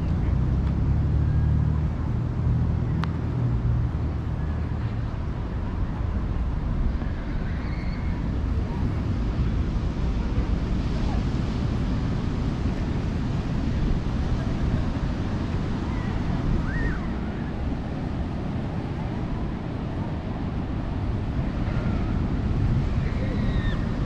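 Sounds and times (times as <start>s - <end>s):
ocean surf rumbling: 1.7s - 24.0s
wind buffeting microphone: 1.8s - 24.0s.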